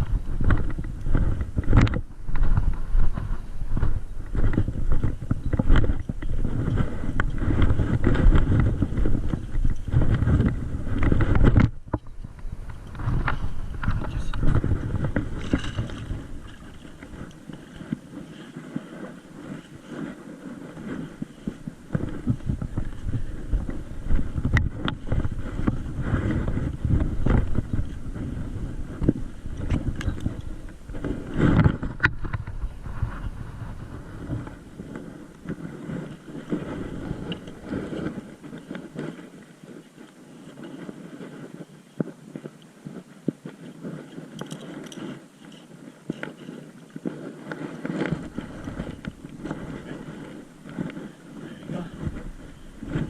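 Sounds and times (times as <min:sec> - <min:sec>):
water noise: 0:00.0 - 0:53.0
wind buffeting microphone: 0:00.0 - 0:53.0.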